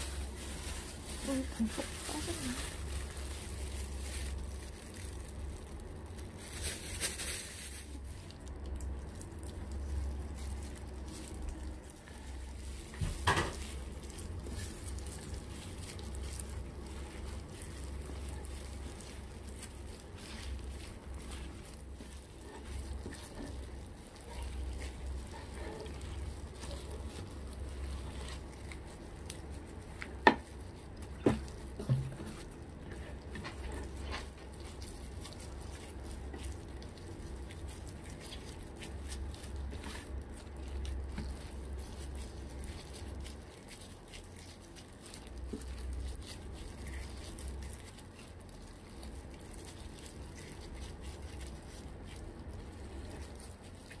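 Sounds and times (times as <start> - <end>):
steady low hum: 0.0 - 54.0
utensil stirring in a pot: 7.6 - 54.0.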